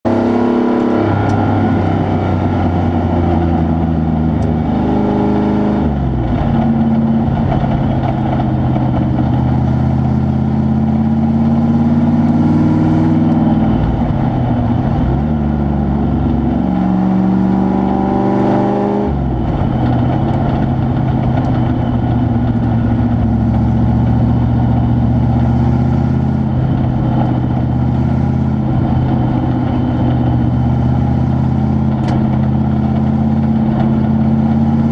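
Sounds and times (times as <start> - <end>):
truck engine revving: 0.1 - 34.9.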